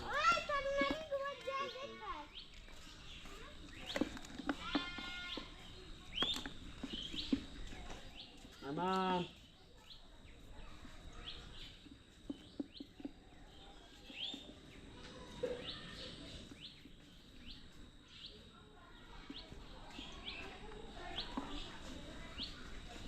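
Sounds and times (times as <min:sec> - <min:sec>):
birds chirping: 0:00.0 - 0:23.0
outdoor background noise: 0:00.0 - 0:23.0.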